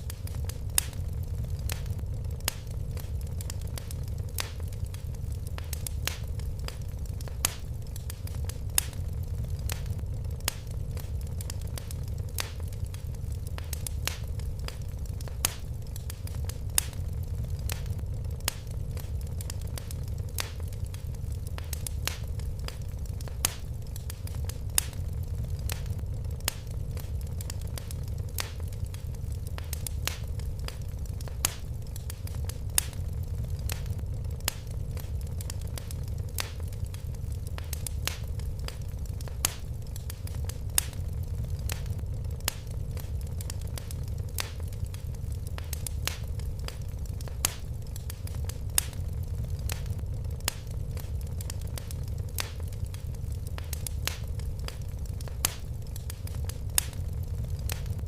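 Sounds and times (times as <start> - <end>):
fire crackling in a fireplace: 0.0 - 58.0.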